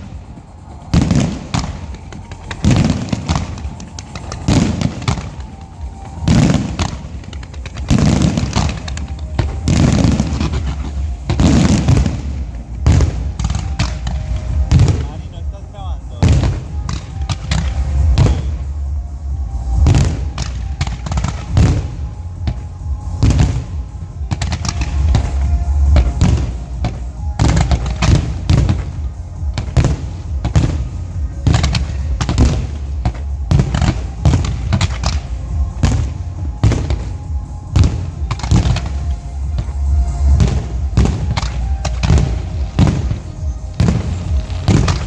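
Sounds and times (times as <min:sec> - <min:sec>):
fireworks bangs and booms: 0:00.0 - 0:45.0
music: 0:00.0 - 0:45.0.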